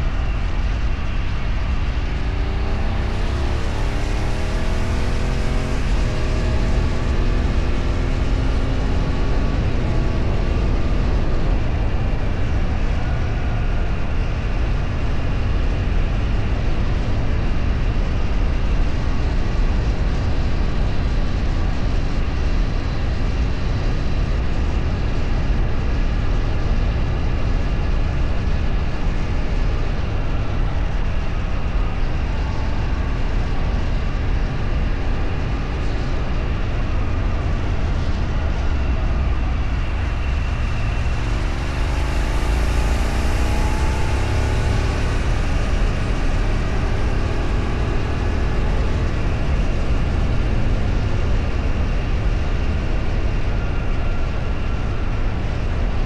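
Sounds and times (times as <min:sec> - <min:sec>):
vehicle engine: 0:00.0 - 0:56.0
wind and road noise: 0:00.0 - 0:56.0.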